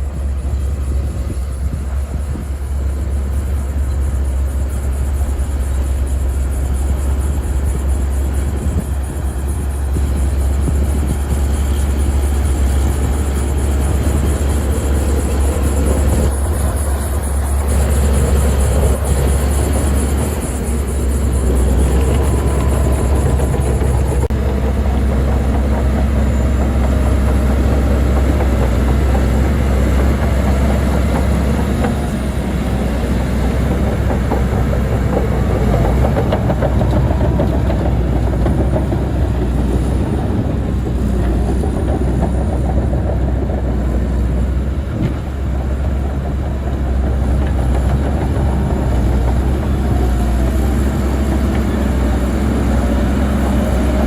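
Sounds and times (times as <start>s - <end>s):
heavy diesel machinery rumbling: 0.0s - 54.0s
machinery clatter: 0.0s - 54.0s.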